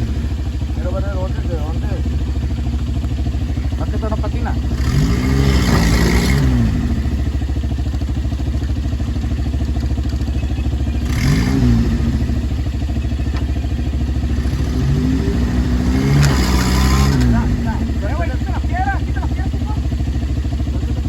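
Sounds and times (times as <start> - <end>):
pickup truck engine revving: 0.0 - 8.1, 9.0 - 21.0.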